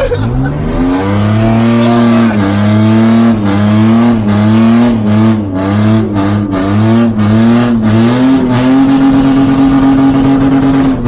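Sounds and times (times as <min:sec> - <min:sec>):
engine running at high revs: 0:00.0 - 0:11.0.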